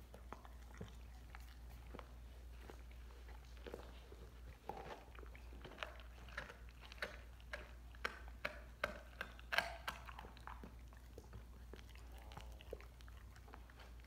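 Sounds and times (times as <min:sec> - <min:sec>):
dog crunching on bone: 0:00.0 - 0:14.0.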